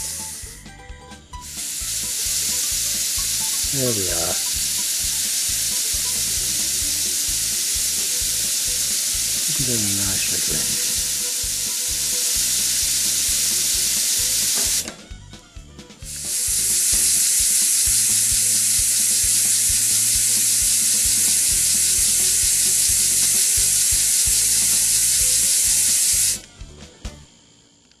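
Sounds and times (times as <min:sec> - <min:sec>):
hiss of compressed air: 0:00.0 - 0:00.6, 0:01.4 - 0:14.9, 0:16.1 - 0:26.4
fast even ticking of steam engine: 0:01.4 - 0:14.8, 0:16.1 - 0:26.4.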